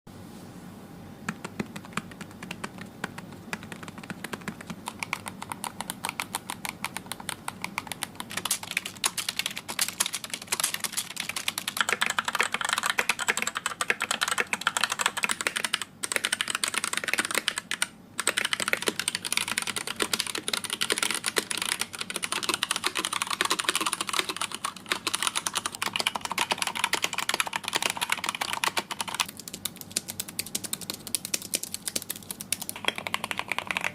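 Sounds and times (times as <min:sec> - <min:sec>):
keyboard typing: 0:01.3 - 0:33.9.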